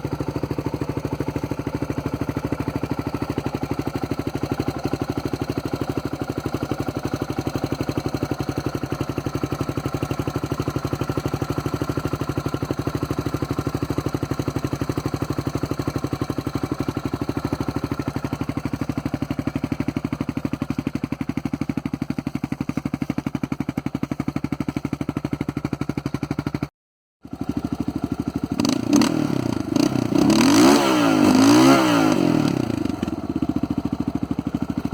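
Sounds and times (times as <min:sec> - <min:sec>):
atv engine idling and revving: 0:00.0 - 0:34.9.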